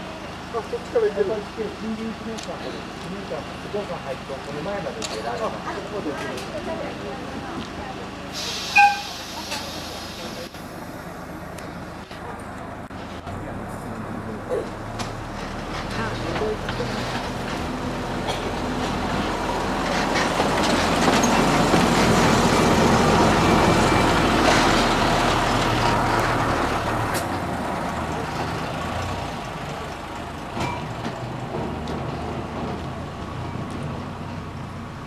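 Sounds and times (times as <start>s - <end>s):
diesel locomotive running: 0.0s - 35.0s.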